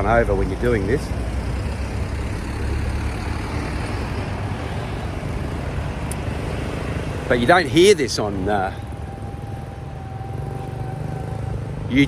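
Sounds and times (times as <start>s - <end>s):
street traffic passing: 0.0s - 12.0s.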